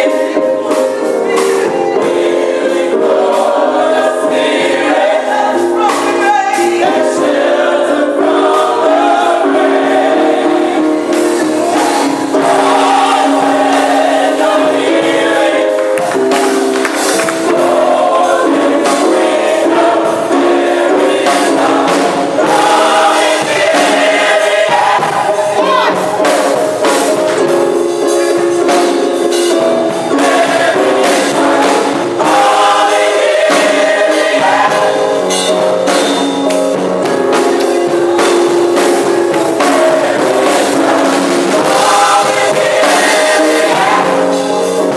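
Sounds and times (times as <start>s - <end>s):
gospel choir singing: 0.0s - 44.9s
instrumental backing: 0.0s - 44.9s
percussion: 0.0s - 44.9s.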